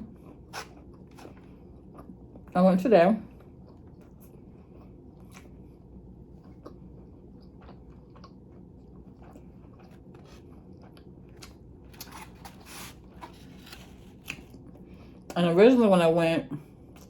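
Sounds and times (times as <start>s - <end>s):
person chewing food: 0.0s - 2.5s, 3.3s - 15.4s, 16.8s - 17.0s
faint low hum: 0.0s - 17.0s.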